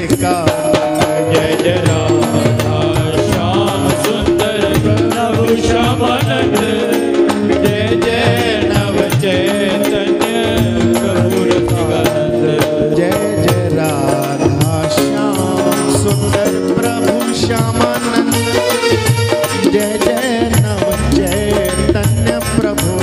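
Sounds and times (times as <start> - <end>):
devotional music melody: 0.0 - 23.0
drum and percussion beat: 0.0 - 23.0.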